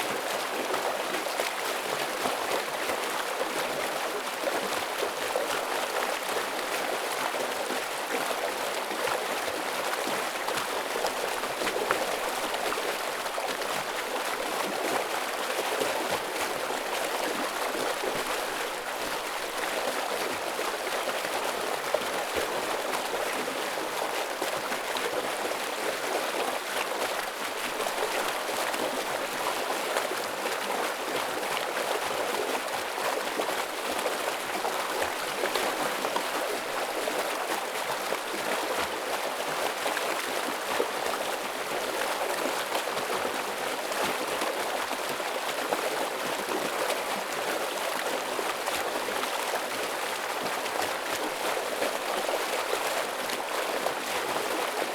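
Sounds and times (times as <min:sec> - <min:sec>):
stream water splashing over rocks: 0:00.1 - 0:54.9.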